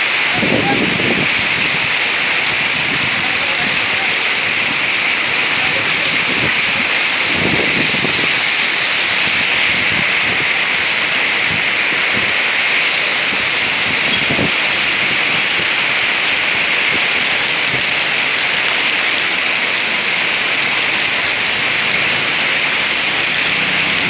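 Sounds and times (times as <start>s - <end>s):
heavy rain on pavement: 0.0s - 24.0s.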